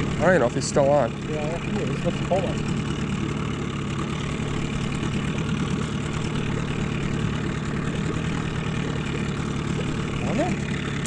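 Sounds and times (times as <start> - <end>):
outboard boat motor humming: 0.0 - 11.0.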